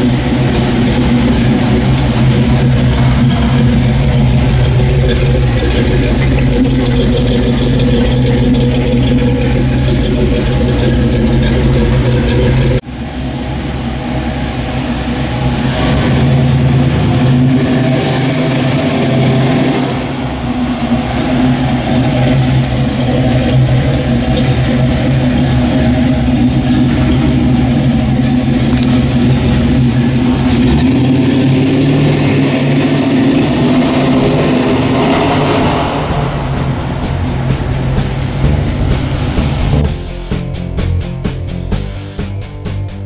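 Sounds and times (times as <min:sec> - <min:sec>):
truck driving slowly past: 0:00.0 - 0:42.6
truck engine idling: 0:00.0 - 0:43.0.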